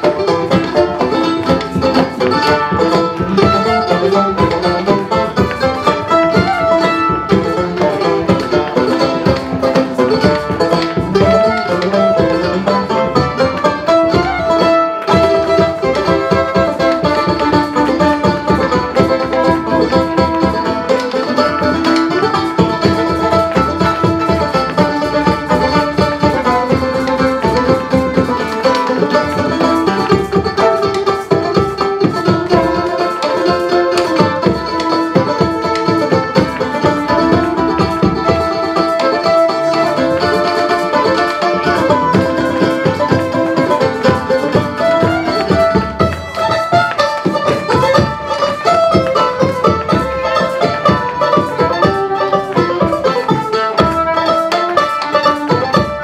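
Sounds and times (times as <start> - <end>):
folk band playing: 0.0 - 56.0.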